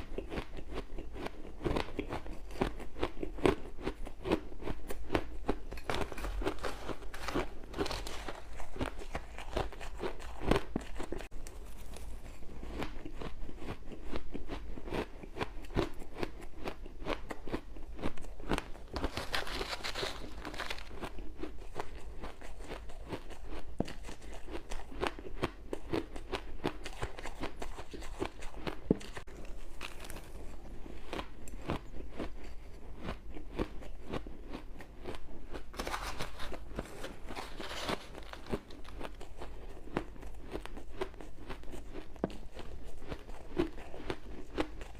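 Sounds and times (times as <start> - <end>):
ice being chewed and crunched: 0.0 - 44.9.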